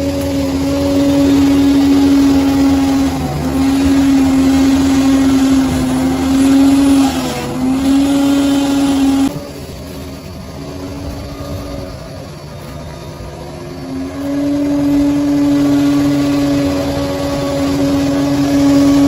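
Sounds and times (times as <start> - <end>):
bulldozer engine whine: 0.0 - 19.0.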